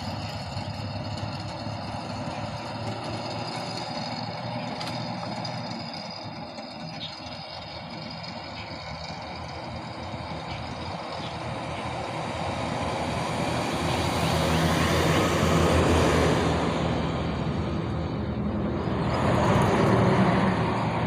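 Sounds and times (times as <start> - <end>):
vehicle engine and tyre noise: 0.0 - 21.0.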